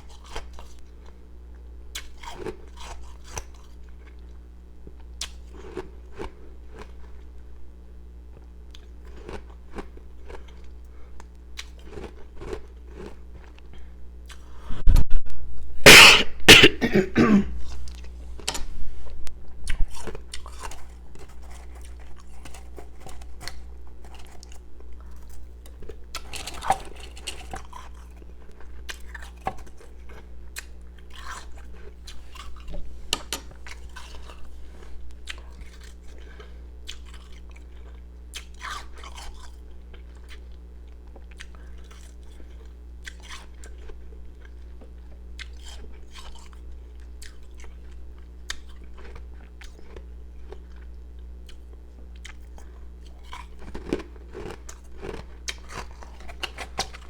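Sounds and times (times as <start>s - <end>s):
crunching and chewing ice: 0.0s - 7.6s, 8.3s - 14.6s, 19.4s - 57.0s.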